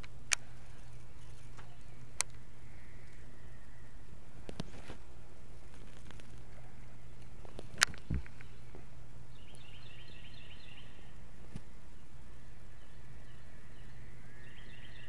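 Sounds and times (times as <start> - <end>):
bird chirping: 0.0 - 4.7, 5.5 - 15.0
low background rumble: 0.0 - 15.0.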